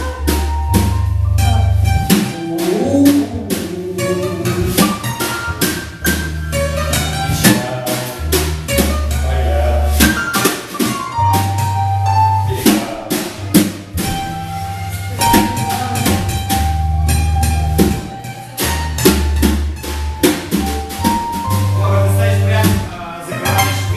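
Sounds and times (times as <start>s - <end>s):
drum kit beat: 0.0s - 23.9s
held bass notes: 0.0s - 23.9s
live band playing: 0.0s - 23.9s.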